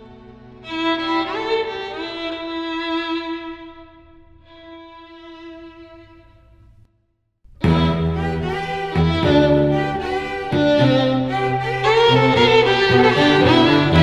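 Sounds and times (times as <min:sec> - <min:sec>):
violin playing long notes: 0:00.0 - 0:06.6, 0:07.6 - 0:14.0.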